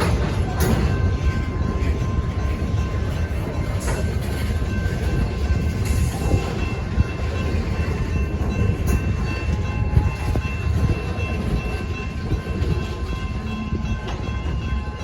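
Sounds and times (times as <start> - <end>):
train rolling on rails: 0.0 - 15.0.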